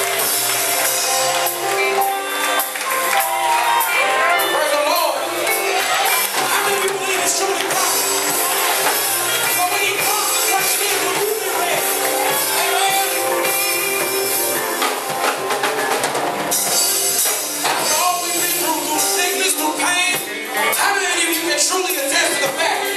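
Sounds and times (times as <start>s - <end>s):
band with drums: 0.0s - 22.9s
choir singing gospel: 0.0s - 22.9s.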